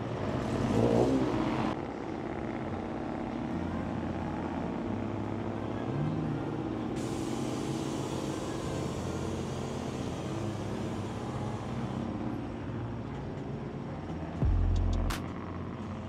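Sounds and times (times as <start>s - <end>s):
car engine idling: 3.0s - 16.0s.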